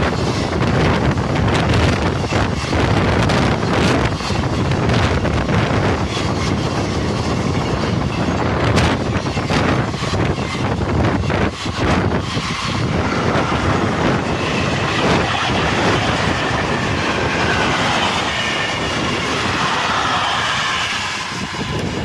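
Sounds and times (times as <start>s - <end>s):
train wheels rumbling on rails: 0.0s - 22.0s
high wheel squeal: 2.2s - 22.0s.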